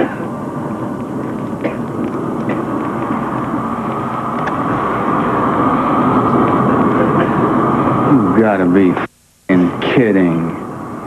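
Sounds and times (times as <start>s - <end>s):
dense rumble: 0.0s - 11.0s.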